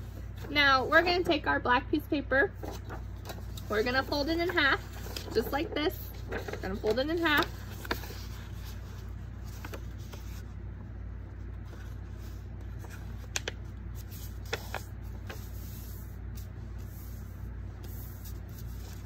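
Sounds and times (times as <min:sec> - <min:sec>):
steady low hum: 0:00.0 - 0:19.0
paper handling: 0:02.6 - 0:19.0.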